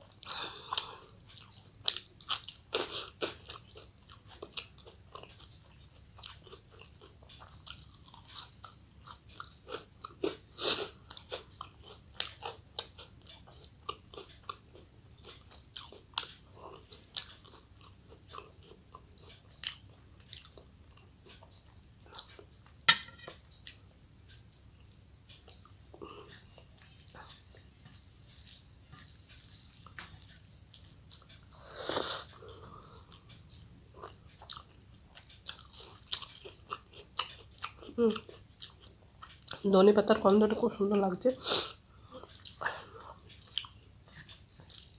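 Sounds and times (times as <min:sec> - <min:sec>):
person chewing with wet smacks: 0:00.0 - 0:39.8, 0:40.6 - 0:44.9.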